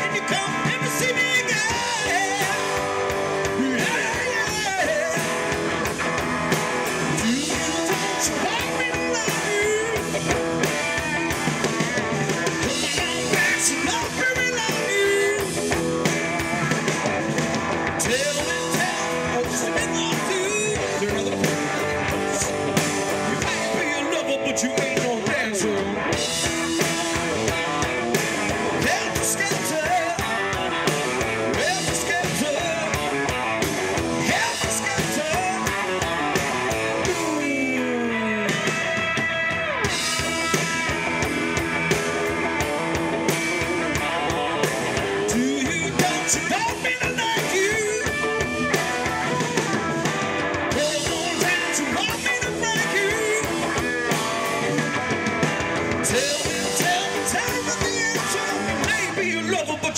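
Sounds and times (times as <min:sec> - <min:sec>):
bass guitar: 0:00.0 - 0:59.9
drum kit: 0:00.0 - 0:59.9
electric guitars: 0:00.0 - 0:59.9
lead singer singing: 0:00.0 - 0:59.9.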